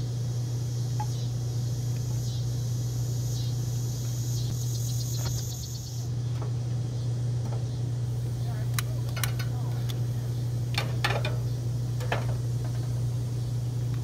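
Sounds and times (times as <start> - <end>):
crickets chirping: 0.0 - 13.9
loud low hum: 0.0 - 14.0.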